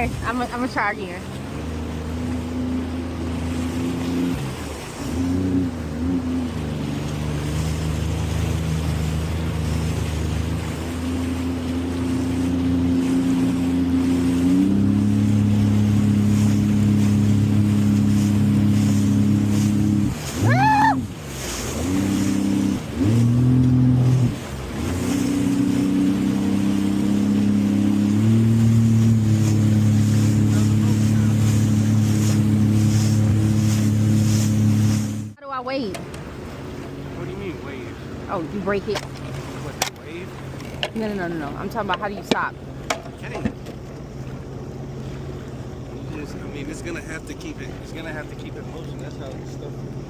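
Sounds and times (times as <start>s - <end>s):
jet ski engine revving: 0.0s - 50.0s.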